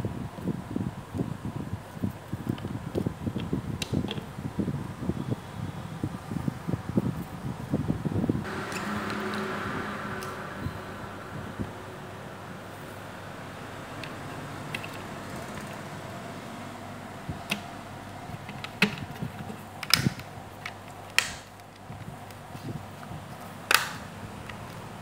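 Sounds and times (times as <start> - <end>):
steady background noise: 0.0 - 25.0.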